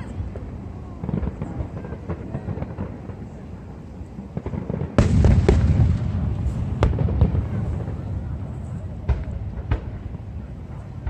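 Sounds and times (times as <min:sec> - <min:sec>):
fireworks booming: 0:00.0 - 0:11.0
fireworks crackling: 0:00.0 - 0:11.0
fireworks rumble: 0:00.0 - 0:11.0.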